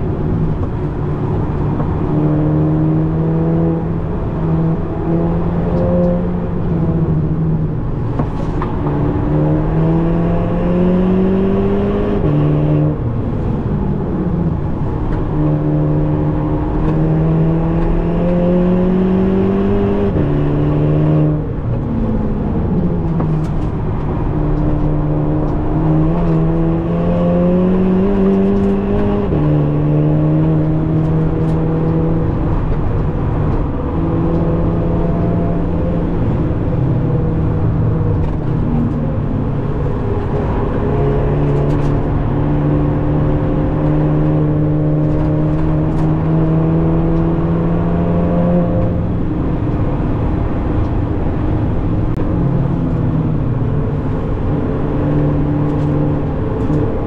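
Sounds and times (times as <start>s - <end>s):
car engine accelerating: 0.0s - 57.0s
tyre and road noise: 0.0s - 57.0s.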